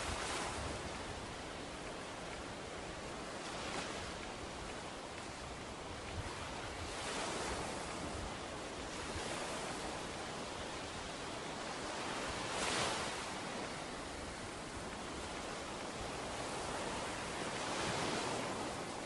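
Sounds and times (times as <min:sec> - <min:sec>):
waves breaking on beach: 0:00.0 - 0:19.0.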